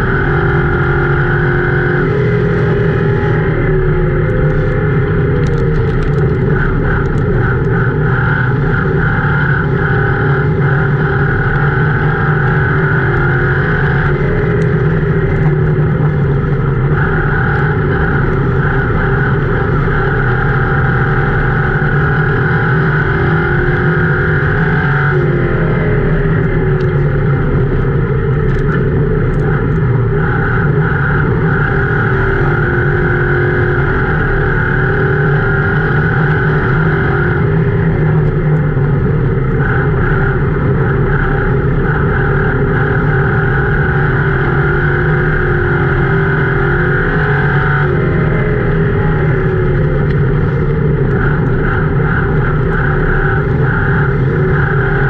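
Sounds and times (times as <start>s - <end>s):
race car engine from cabin: 0.0s - 55.0s.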